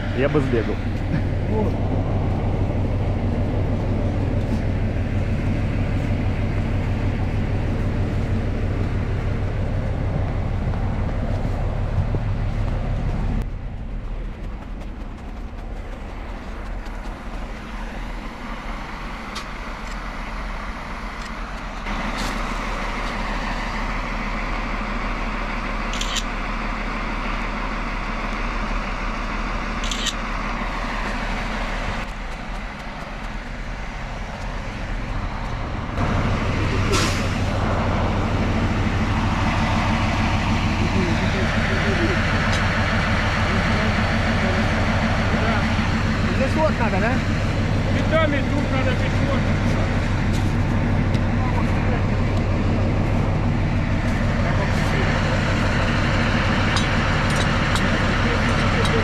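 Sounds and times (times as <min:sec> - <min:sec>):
diesel locomotive engine idling: 0:00.0 - 0:59.0.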